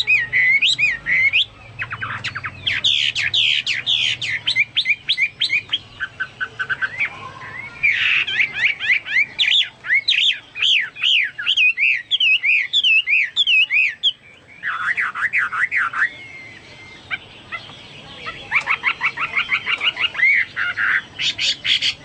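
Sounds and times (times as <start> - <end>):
bird singing whistled song: 0.0 - 22.0.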